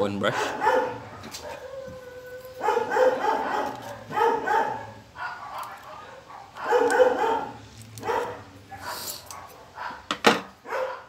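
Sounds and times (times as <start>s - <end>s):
dog barking: 0.2s - 1.7s, 2.6s - 11.0s.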